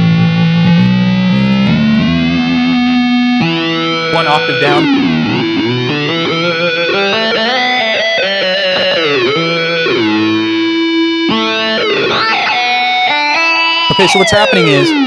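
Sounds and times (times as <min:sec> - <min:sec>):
buzzy synth guitar tone: 0:00.0 - 0:15.0.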